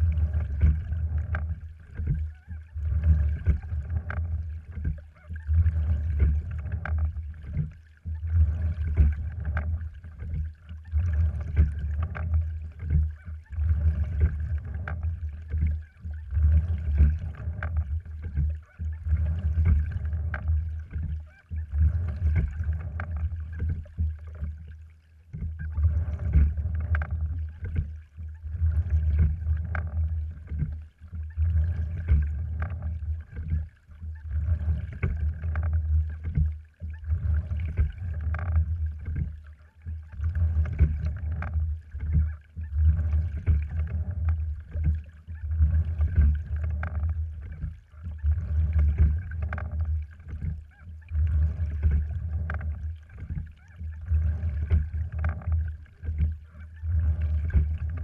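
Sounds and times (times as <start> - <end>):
low rumble: 0.0 - 50.4
water rushing along hull: 0.0 - 58.0.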